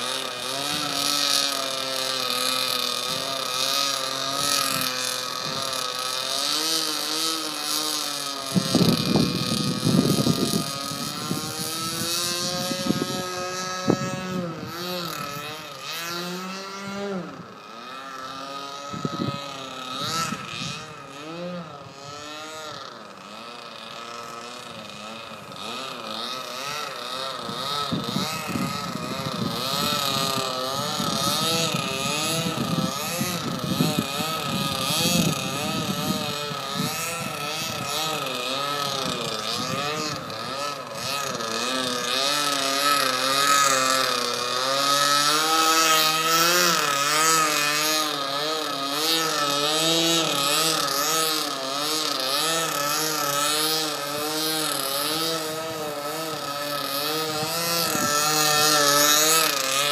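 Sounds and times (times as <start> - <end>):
model plane engine buzzing: 0.0 - 59.9.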